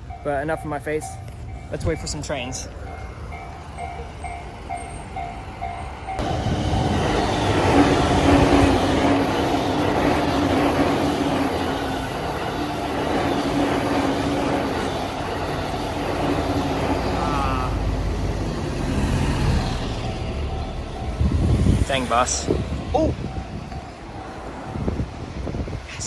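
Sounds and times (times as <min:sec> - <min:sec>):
level crossing bell ringing: 0:00.0 - 0:06.2, 0:09.3 - 0:25.7
train passing close by: 0:00.0 - 0:26.0.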